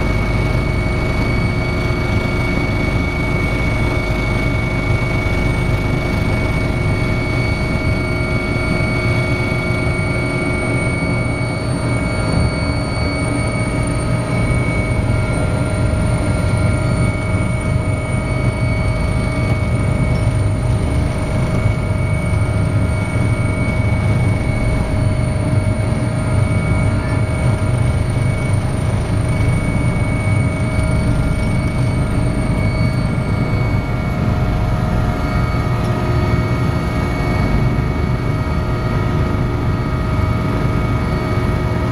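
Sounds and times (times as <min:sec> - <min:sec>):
helicopter engines and rotor: 0:00.0 - 0:41.9
high whine: 0:00.0 - 0:41.9.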